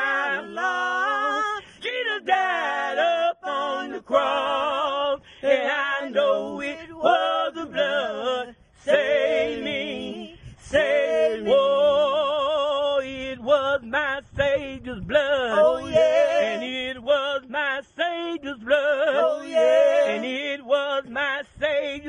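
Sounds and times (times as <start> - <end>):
women singing a cappella: 0.0 - 22.0.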